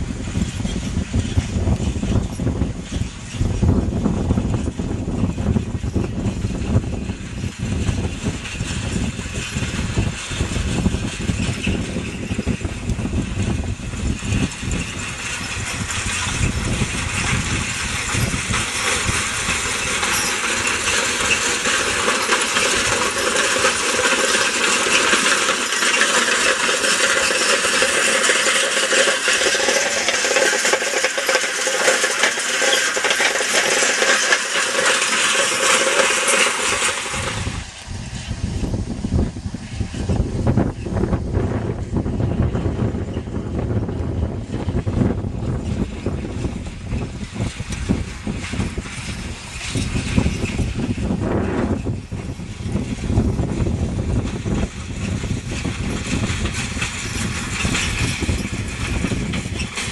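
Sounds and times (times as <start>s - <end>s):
wind rumbling on microphone: 0.0s - 59.9s
hay rake rattling and clinking: 0.1s - 41.1s, 41.7s - 59.9s.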